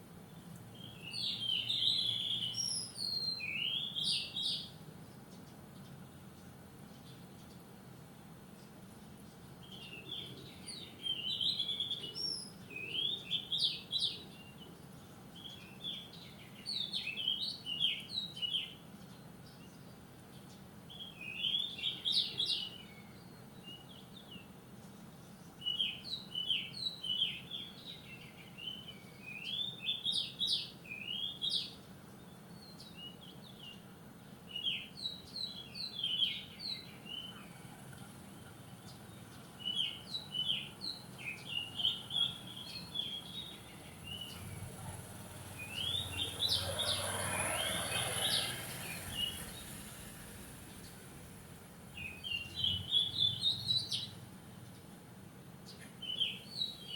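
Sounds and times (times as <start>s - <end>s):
songbird chirping: 0.0s - 56.9s.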